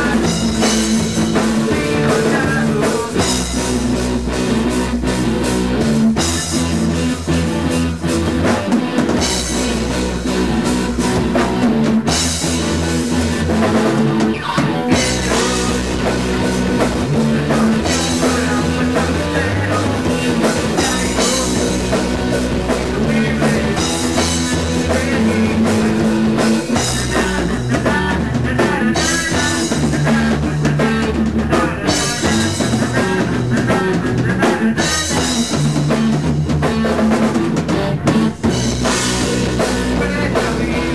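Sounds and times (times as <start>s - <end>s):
man singing: 0.0s - 4.0s, 8.4s - 40.9s
drum kit: 0.0s - 40.9s
electric guitars: 0.0s - 40.9s.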